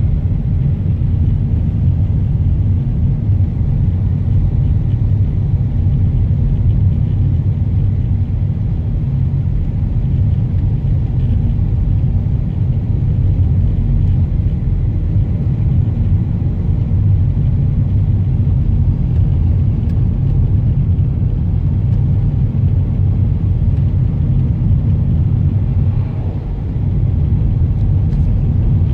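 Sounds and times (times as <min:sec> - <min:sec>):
car engine and road rumble: 0:00.0 - 0:28.9.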